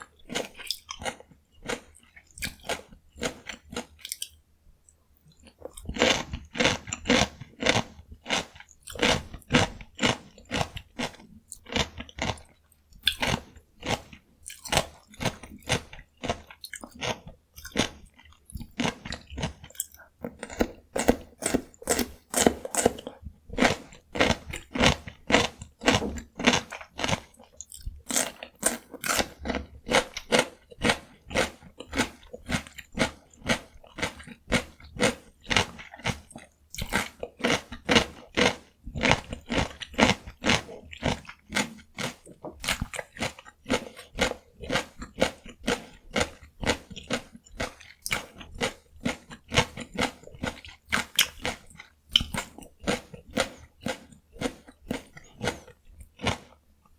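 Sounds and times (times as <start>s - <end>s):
crunchy chewing of cucumber: 0.0s - 56.6s.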